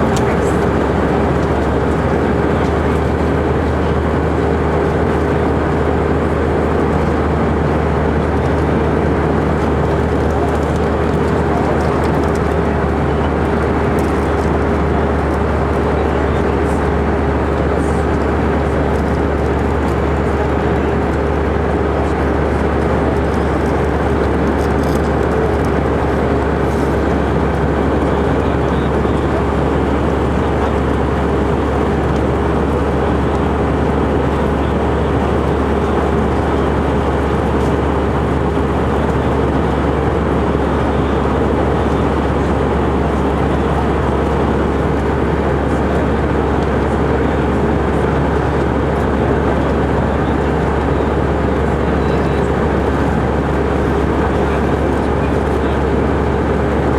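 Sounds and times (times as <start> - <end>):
airplane cabin engine drone: 0.0 - 56.9
constant low hum: 0.0 - 56.9.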